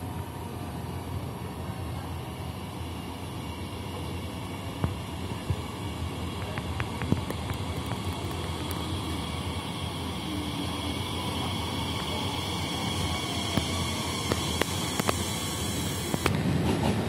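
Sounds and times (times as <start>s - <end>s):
train rumbling into platform: 0.0s - 17.0s.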